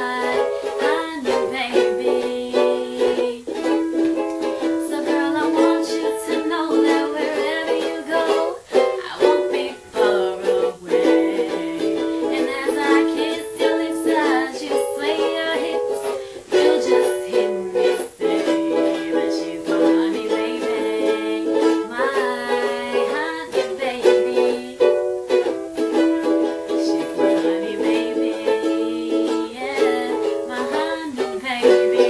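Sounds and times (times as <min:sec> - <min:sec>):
girl singing pop song: 0:00.0 - 0:32.0
ukulele strumming: 0:00.0 - 0:32.0.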